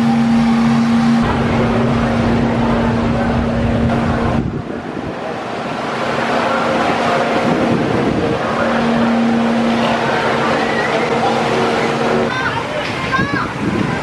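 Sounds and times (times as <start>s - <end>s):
roller coaster rumbling on track: 0.0s - 14.0s
steady hum: 0.0s - 14.0s.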